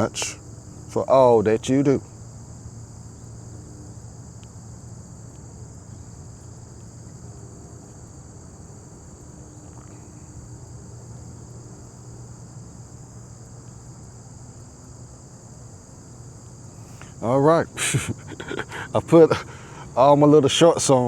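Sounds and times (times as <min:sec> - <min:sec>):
crickets trilling: 0:00.0 - 0:21.0
steady low hum: 0:00.0 - 0:21.0.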